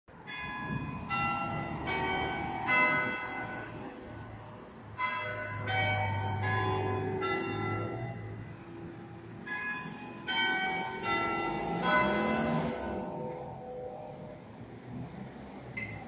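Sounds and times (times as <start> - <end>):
church bells ringing: 0.2 - 14.5.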